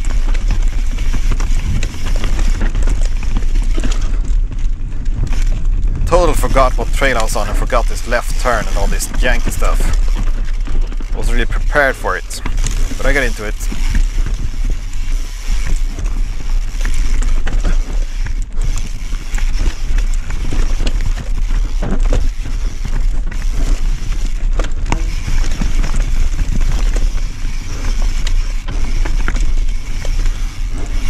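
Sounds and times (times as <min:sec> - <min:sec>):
bike rattling and clicking: 0:00.0 - 0:31.0
bike tyres rumbling over dirt: 0:00.0 - 0:31.0
continuous low rumble: 0:00.0 - 0:31.0.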